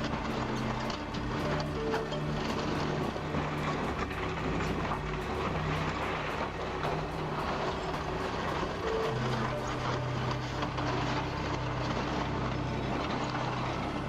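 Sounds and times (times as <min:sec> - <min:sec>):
diesel engine drone: 0:00.0 - 0:14.0
rough mechanical noise: 0:00.0 - 0:14.0.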